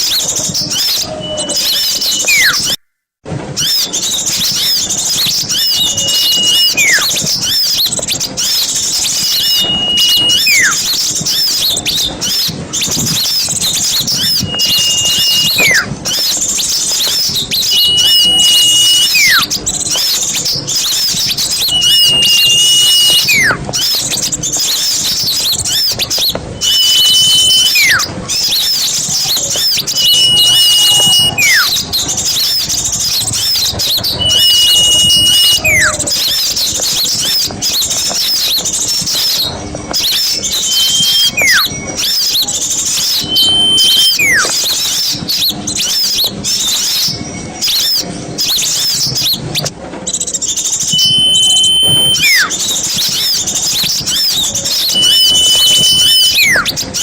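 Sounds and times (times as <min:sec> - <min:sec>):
songbirds chattering: 0:00.0 - 0:02.8, 0:03.6 - 0:57.0
loud falling whistle: 0:00.2 - 0:02.8, 0:03.6 - 0:20.2, 0:20.8 - 0:24.0, 0:24.8 - 0:36.6, 0:39.1 - 0:45.1, 0:50.8 - 0:56.8.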